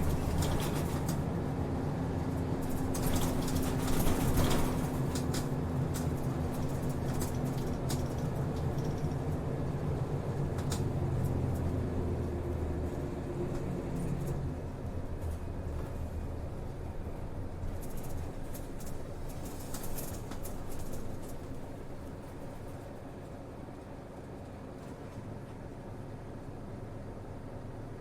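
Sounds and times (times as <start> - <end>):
bus body rattles and clicks: 0.0 - 28.0
bus engine drone: 0.0 - 28.0.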